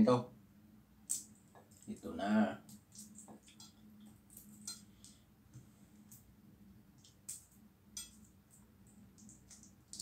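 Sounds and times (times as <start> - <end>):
low steady hum: 0.0 - 10.0
eggshell clicks and crackles: 1.0 - 6.3, 6.9 - 10.0.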